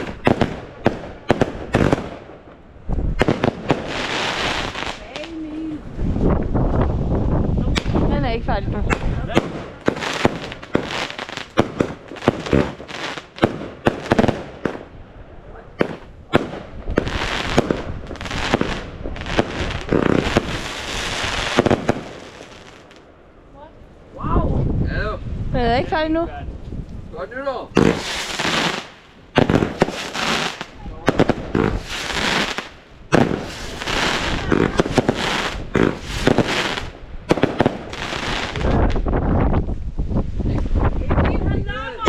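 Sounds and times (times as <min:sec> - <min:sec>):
firework bangs: 0:00.0 - 0:15.1, 0:15.7 - 0:23.1, 0:27.6 - 0:39.6
firework crackle: 0:00.0 - 0:23.2, 0:26.7 - 0:42.0.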